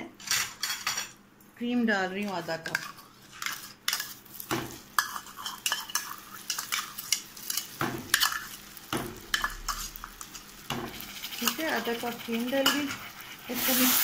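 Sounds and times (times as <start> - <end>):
hot caramel sizzling: 2.1 - 14.0
spoon clinking and scraping a pan: 2.6 - 14.0.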